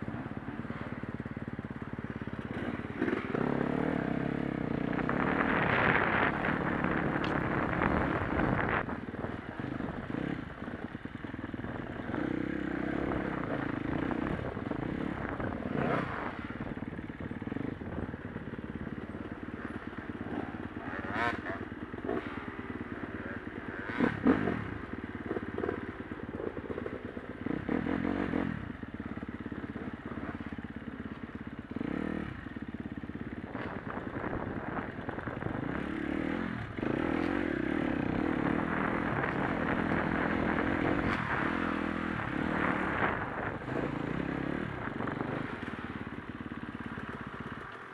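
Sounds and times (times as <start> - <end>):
dirt bike engine revving: 1.8 - 9.0, 11.9 - 30.5, 33.4 - 47.6.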